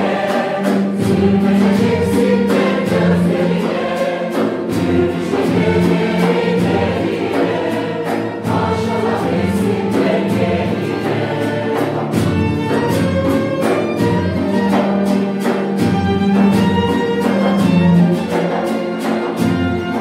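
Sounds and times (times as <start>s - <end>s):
mixed choir singing folk song: 0.0s - 20.0s
violins cello and plucked strings: 0.0s - 20.0s.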